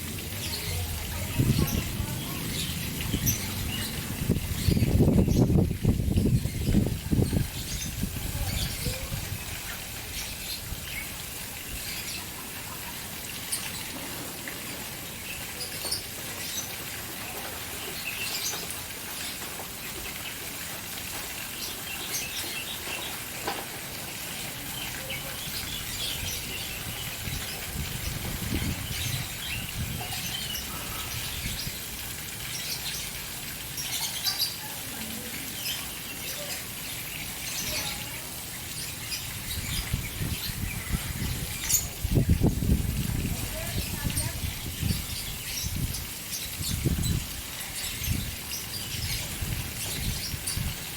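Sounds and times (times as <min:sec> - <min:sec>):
caged birds chirping: 0:00.0 - 0:50.9
fountain water splashing: 0:00.0 - 0:50.9.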